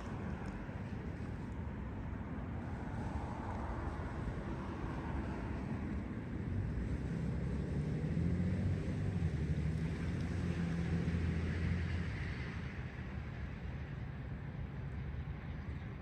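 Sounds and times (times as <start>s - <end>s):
steady outdoor rumble: 0.0s - 16.0s.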